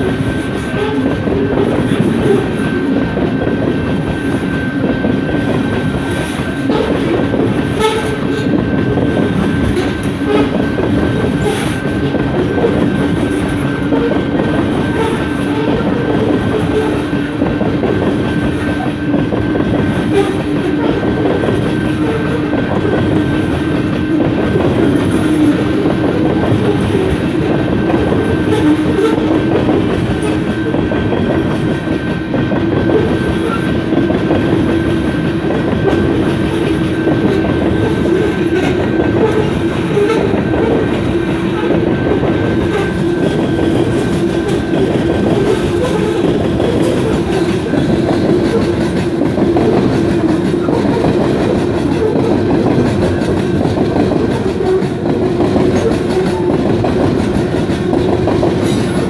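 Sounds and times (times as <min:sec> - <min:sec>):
steel wheels on rails: 0:00.0 - 0:59.0.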